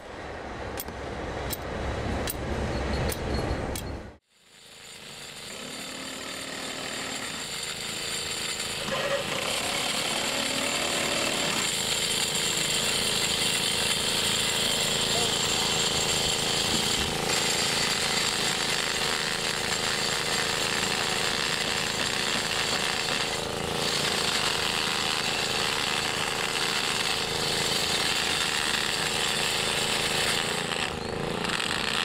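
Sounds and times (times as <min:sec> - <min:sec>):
power tool rattling: 0:04.3 - 0:32.0.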